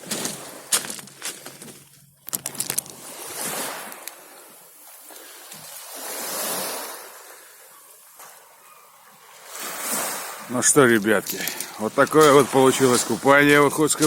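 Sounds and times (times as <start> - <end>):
sea waves washing on shore: 2.5 - 14.0.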